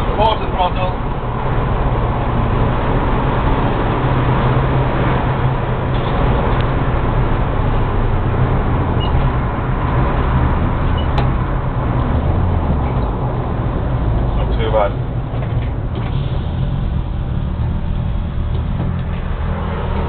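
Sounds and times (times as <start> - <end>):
car engine drone: 0.0 - 20.0
road and wind noise: 0.0 - 20.0.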